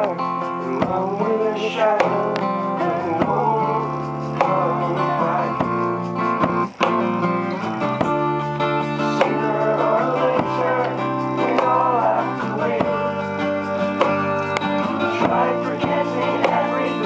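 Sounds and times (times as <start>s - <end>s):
man singing: 0.0s - 6.0s, 9.0s - 17.0s
acoustic guitar strumming: 0.0s - 17.0s.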